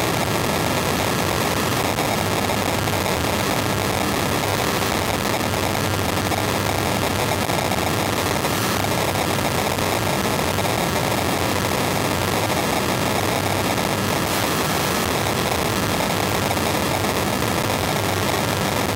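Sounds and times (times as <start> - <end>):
dense buzzing radio noise: 0.0 - 18.9.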